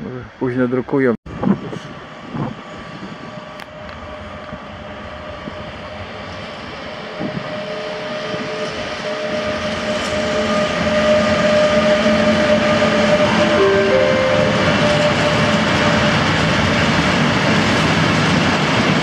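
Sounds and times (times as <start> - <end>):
locomotive whine: 2.1 - 19.0.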